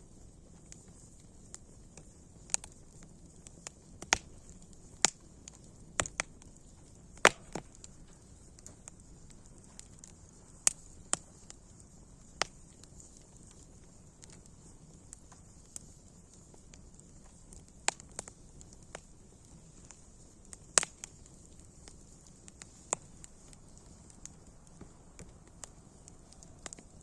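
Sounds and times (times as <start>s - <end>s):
faint steady hiss: 0.0s - 27.0s
wood fire crackling: 0.0s - 27.0s.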